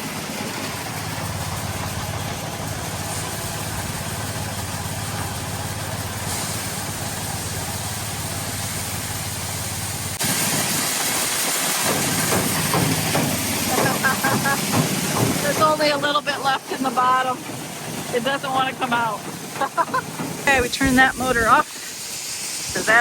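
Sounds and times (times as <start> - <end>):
grain loading machinery humming: 0.0 - 23.0.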